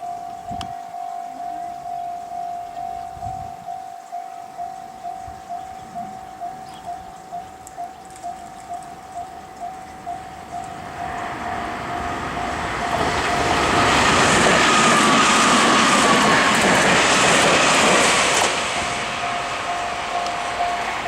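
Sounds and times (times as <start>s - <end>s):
electric train passing: 0.0s - 21.0s
level crossing warning bell: 0.0s - 21.0s
train whine falling in pitch: 0.0s - 21.0s.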